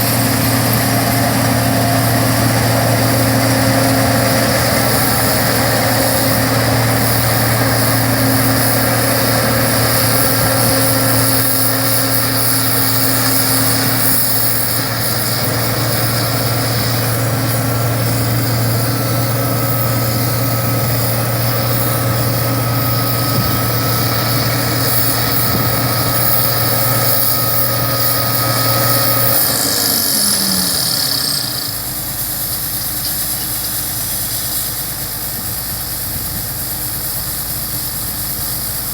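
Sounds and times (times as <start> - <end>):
combine harvester engine hum: 0.0 - 38.9
high machine whine: 0.0 - 38.9.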